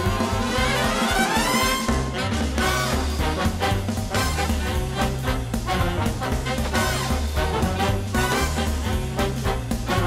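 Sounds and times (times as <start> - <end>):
upbeat swing jazz with brass: 0.0 - 10.0.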